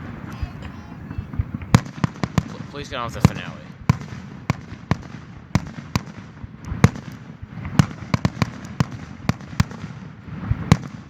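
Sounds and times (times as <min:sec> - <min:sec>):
fireworks banging: 0:00.0 - 0:11.0
steady background hiss: 0:00.0 - 0:11.0.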